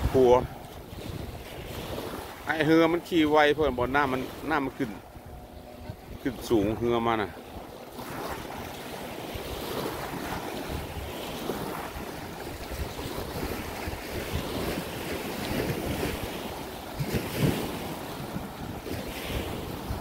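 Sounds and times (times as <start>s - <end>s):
small waves washing on sand: 0.0s - 20.0s
wind on microphone: 0.0s - 20.0s.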